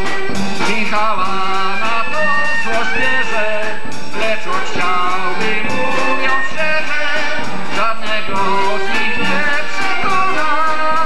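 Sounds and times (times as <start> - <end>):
drums and cymbal: 0.0 - 11.0
man singing into microphone: 0.0 - 11.0.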